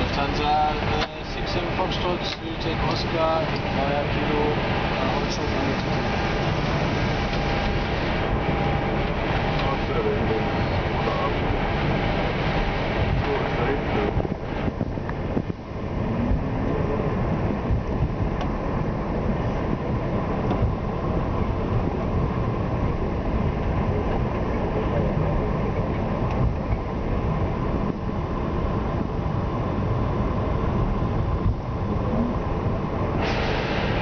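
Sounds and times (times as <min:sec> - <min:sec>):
air conditioning: 0:00.0 - 0:34.0
aircraft engines idling: 0:00.0 - 0:34.0.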